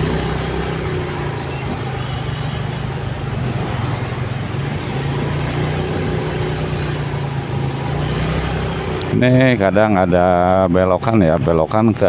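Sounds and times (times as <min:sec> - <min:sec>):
motorcycle engine running: 0:00.0 - 0:10.6
road and traffic noise: 0:00.0 - 0:12.0.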